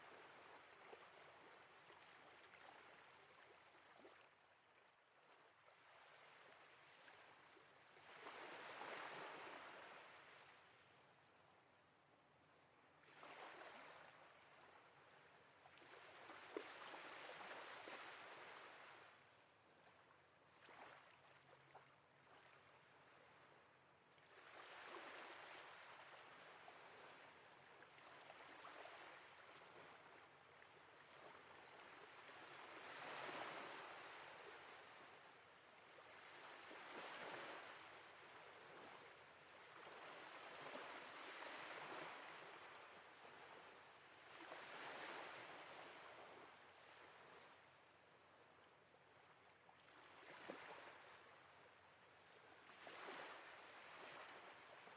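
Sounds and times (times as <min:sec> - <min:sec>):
faint sea waves washing in: 0:00.0 - 0:54.9.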